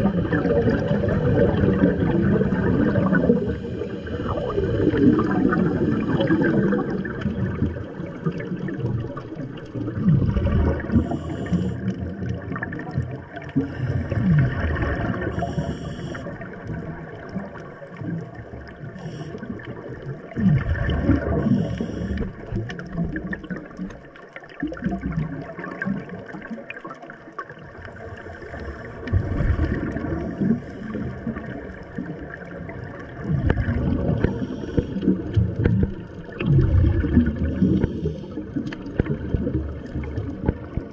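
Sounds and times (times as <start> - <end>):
underwater breath bubbling: 0.0 - 24.0, 27.6 - 40.9.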